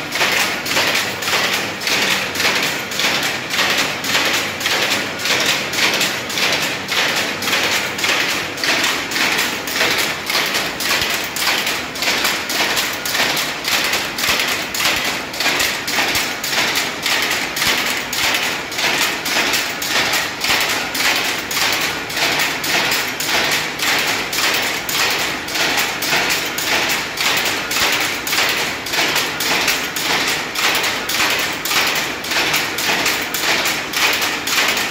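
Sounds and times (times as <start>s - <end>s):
power loom clattering: 0.0s - 34.9s.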